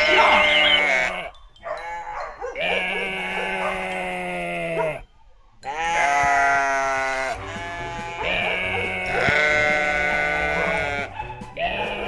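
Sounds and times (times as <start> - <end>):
sheep-like bleating: 0.0 - 5.0, 5.6 - 12.0.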